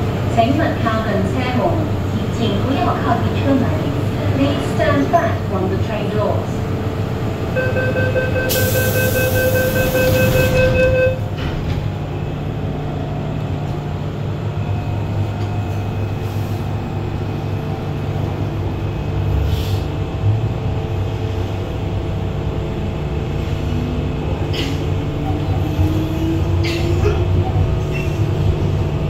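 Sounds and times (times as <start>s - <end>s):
low rumble of train running: 0.0s - 29.0s.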